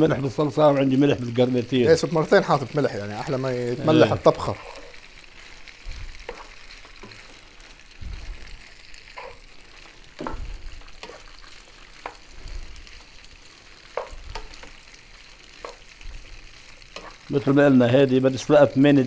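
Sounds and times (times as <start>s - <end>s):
pasta sizzling in a pan: 0.0s - 19.0s
wooden spoon scraping a pan: 1.9s - 18.5s.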